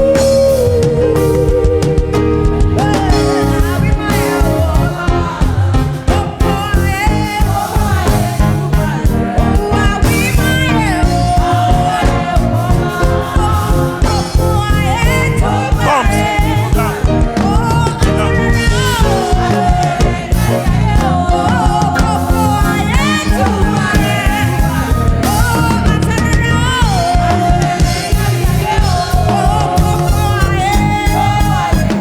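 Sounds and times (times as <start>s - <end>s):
drums and bass beat: 0.0s - 32.0s
person singing melody: 0.0s - 32.0s.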